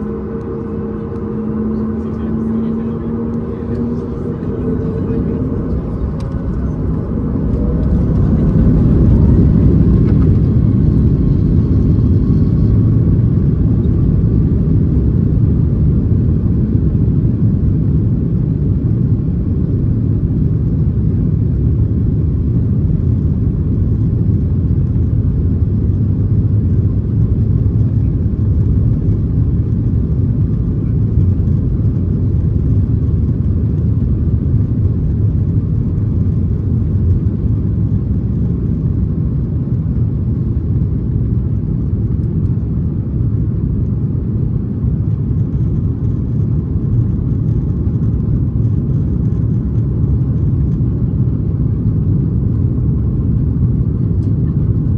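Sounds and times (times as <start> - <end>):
aircraft engine rumble in cabin: 0.0 - 54.9.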